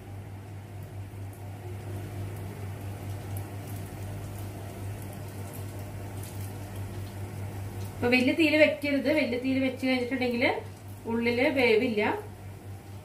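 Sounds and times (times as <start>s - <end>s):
doughnuts frying in hot oil: 0.0s - 13.0s
steady low hum: 0.0s - 13.0s.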